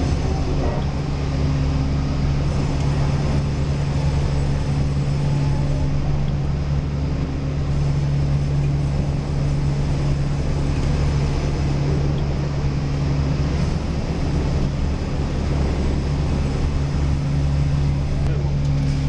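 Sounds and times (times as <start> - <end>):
heavy machinery droning: 0.0 - 19.0.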